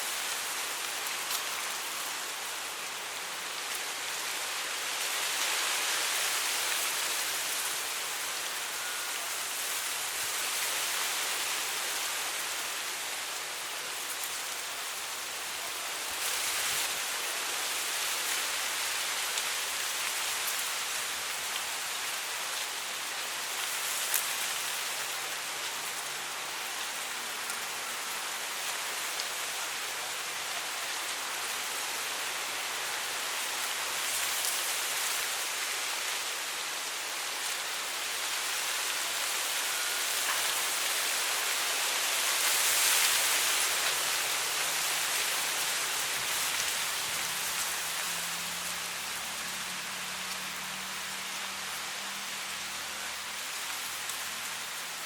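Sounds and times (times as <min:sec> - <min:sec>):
wind rustling dry grass: 0:00.0 - 0:55.0.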